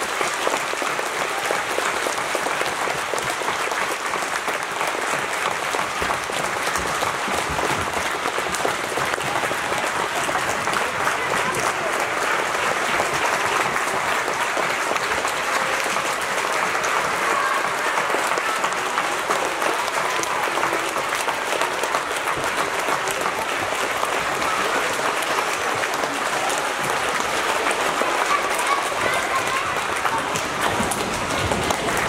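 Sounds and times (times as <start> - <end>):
large audience applauding: 0.0 - 32.0.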